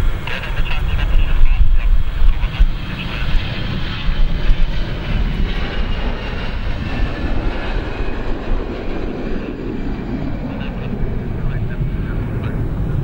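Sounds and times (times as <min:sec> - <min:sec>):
jet engines roaring at takeoff: 0:00.0 - 0:13.0.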